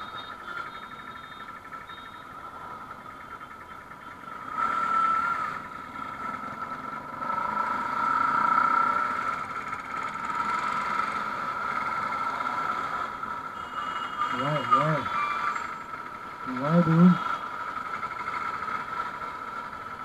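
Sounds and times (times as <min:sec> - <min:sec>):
motorcycle engine at low speed: 0:00.0 - 0:20.0
steady high whine: 0:00.0 - 0:20.0
traffic engines: 0:00.0 - 0:20.0.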